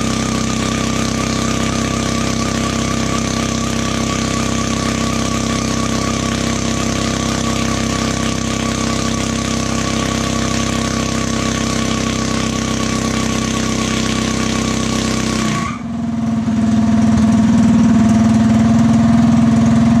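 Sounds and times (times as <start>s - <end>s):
loud deep steady drone: 0.0s - 20.0s
single-cylinder engine running hard: 0.0s - 20.0s.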